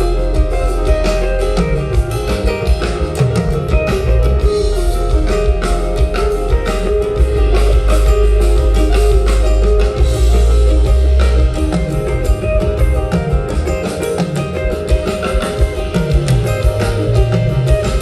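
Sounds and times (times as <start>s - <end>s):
deep bass line: 0.0s - 18.0s
drum kit steady beat: 0.0s - 18.0s
electric guitar: 0.0s - 18.0s.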